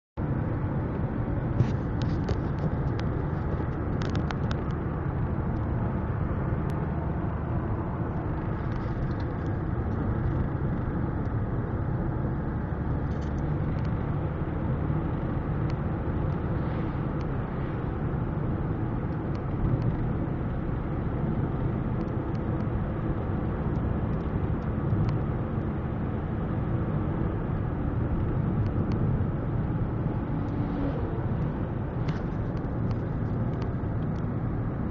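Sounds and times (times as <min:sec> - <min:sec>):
car cabin road and wind noise: 0:00.2 - 0:34.9.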